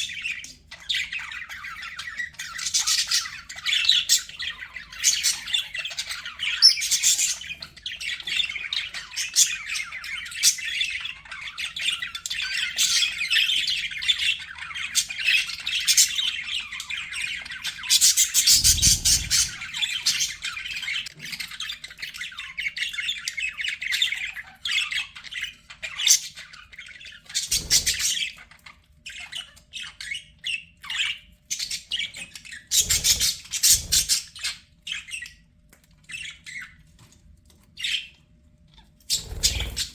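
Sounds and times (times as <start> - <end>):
budgerigars chattering: 0.0 - 35.4, 39.0 - 39.9.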